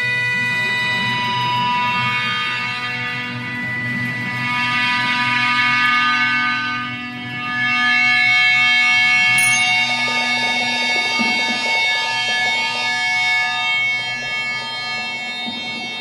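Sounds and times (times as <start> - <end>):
sustained guitar drone: 0.0 - 16.0.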